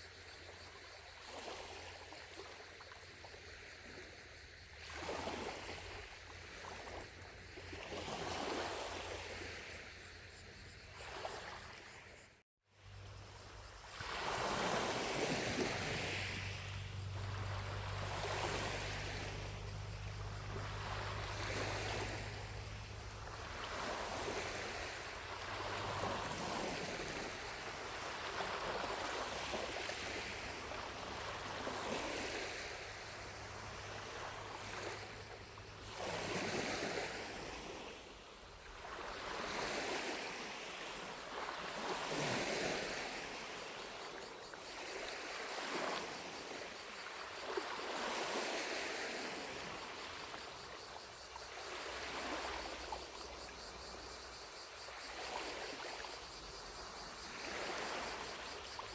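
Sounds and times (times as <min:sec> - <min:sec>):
distant cicadas: 0:00.0 - 0:58.9
waves lapping on shore: 0:00.0 - 0:58.9.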